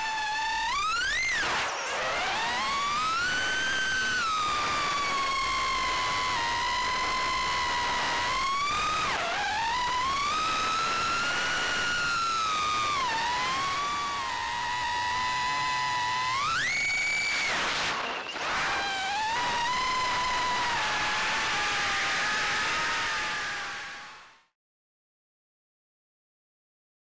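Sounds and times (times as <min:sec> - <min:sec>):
quadcopter motors whining: 0:00.0 - 0:24.4.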